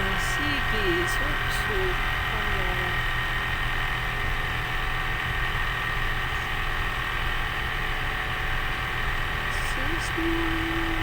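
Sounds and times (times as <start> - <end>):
steady high whine: 0.0 - 11.0
truck engine droning: 0.0 - 11.0.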